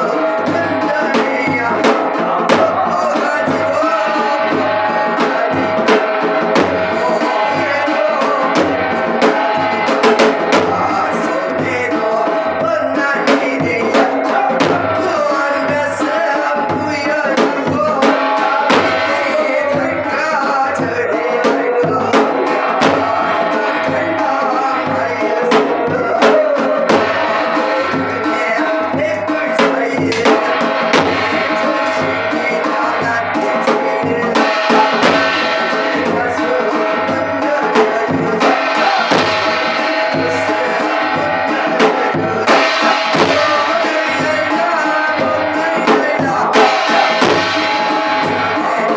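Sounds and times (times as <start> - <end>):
sharp percussion strokes: 0.0 - 48.9
steady drum beat: 0.0 - 48.9.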